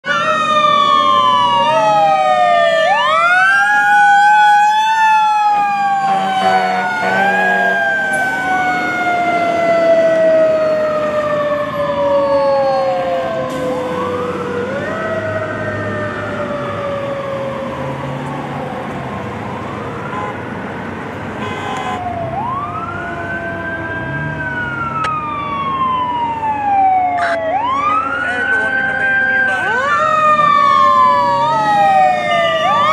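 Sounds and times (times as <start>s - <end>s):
fast wailing siren: 0.0s - 20.6s, 21.4s - 32.9s
fire engine siren rising and winding down: 0.0s - 32.9s.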